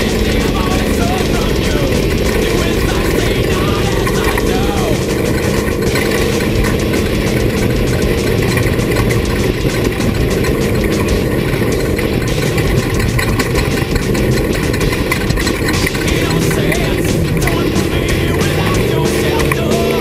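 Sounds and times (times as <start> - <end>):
engine running: 0.0 - 20.0
short rattles and knocks: 0.0 - 20.0.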